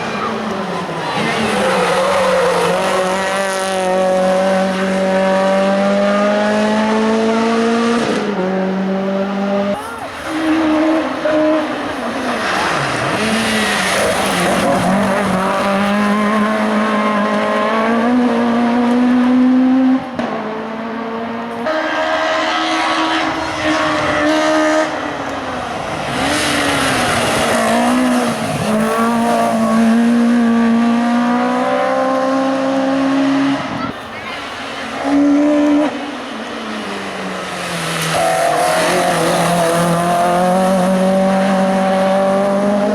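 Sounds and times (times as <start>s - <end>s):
race car engines revving: 0.0s - 42.9s.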